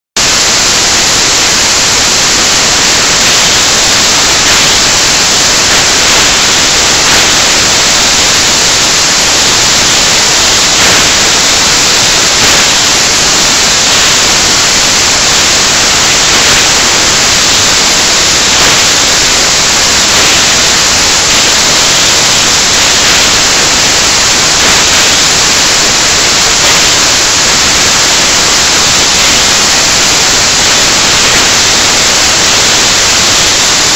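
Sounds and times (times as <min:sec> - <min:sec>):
static hiss: 0:00.2 - 0:33.9.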